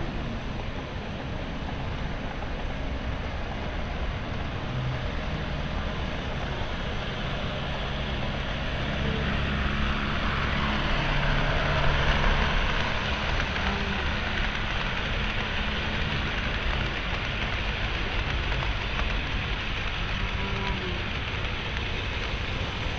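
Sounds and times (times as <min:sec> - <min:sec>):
model train rumbling: 0:00.0 - 0:22.9.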